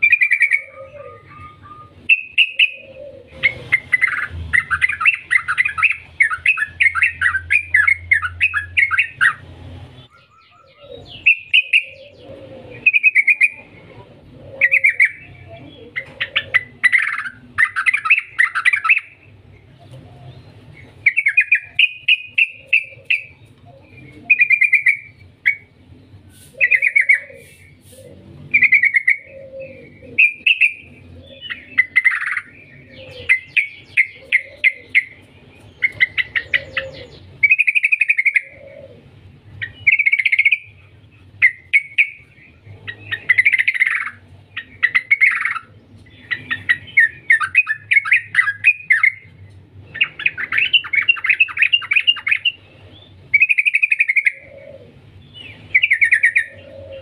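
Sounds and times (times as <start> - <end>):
bird chattering notes: 0.0 - 57.0
bulbul singing: 0.0 - 57.0.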